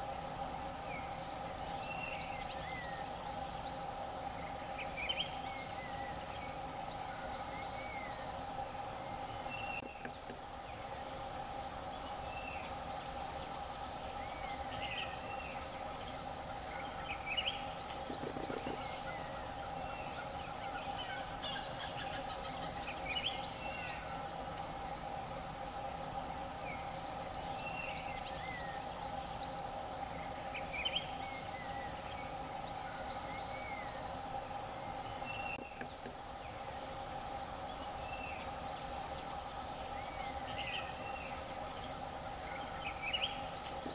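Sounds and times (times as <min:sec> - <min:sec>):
insect drone: 0:00.0 - 0:43.9
birds chirping: 0:00.2 - 0:43.9.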